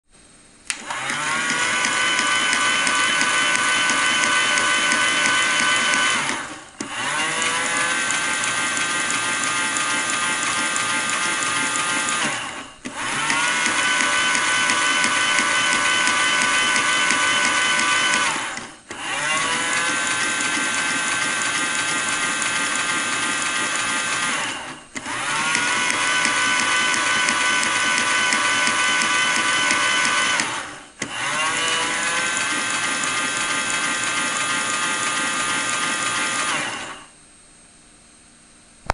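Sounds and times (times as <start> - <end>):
toy washing machine motor whine: 0.7 - 37.2.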